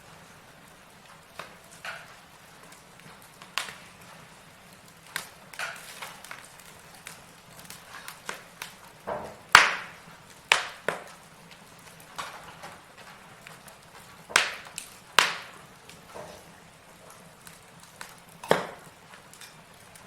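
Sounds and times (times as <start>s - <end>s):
faint steady hiss: 0.0s - 20.0s
wood fire crackling: 0.0s - 20.0s.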